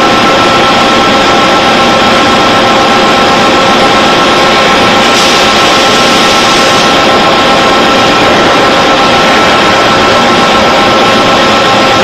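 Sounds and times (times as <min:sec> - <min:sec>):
boring mill running with whine: 0:00.0 - 0:12.0.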